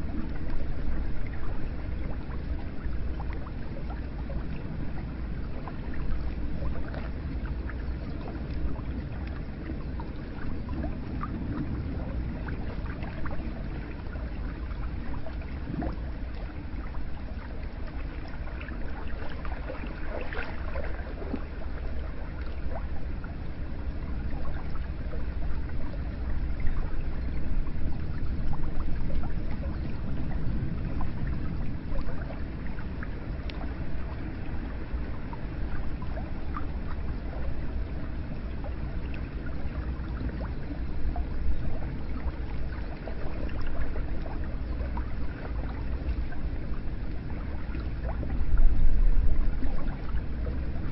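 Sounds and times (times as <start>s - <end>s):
water drips and gurgles: 0.0s - 50.9s
water flowing and splashing: 0.0s - 50.9s.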